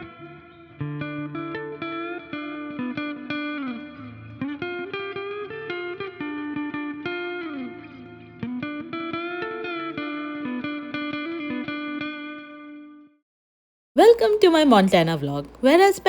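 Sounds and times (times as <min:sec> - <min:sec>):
plucked electric guitar melody: 0:00.0 - 0:13.2.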